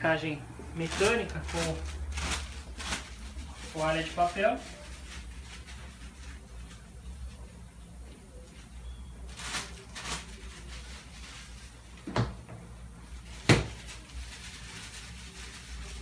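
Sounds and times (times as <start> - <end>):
paper towel rustling: 0.6 - 12.1, 12.9 - 16.0.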